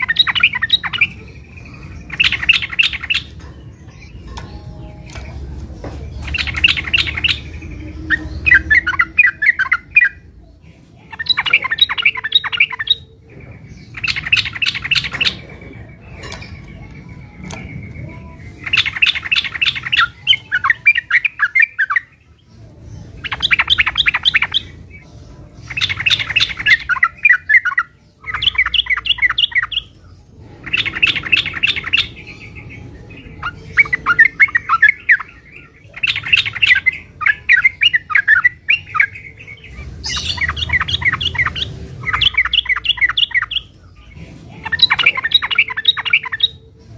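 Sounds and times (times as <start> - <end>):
bird chattering song: 0.0 - 46.9.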